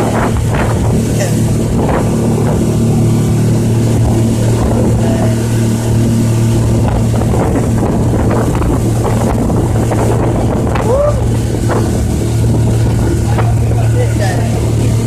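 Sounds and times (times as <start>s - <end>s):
motorboat engine running: 0.0s - 15.0s
water and wind rushing: 0.0s - 15.0s.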